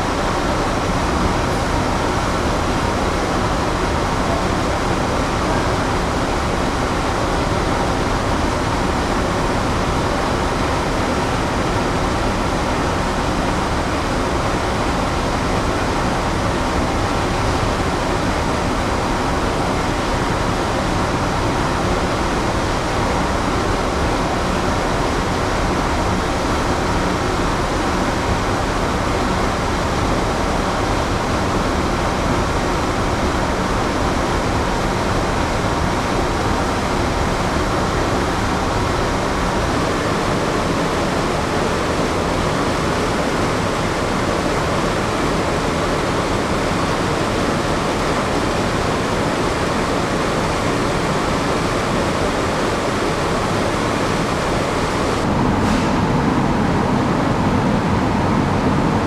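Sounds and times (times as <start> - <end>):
ship machinery and ventilation hum: 0.0 - 59.0.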